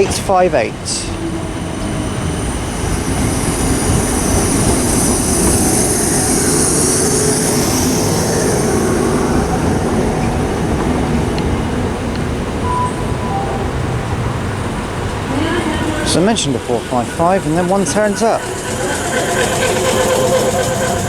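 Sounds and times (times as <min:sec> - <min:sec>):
high hiss: 0:00.0 - 0:21.0
train wheels rumbling on rails: 0:00.0 - 0:21.0.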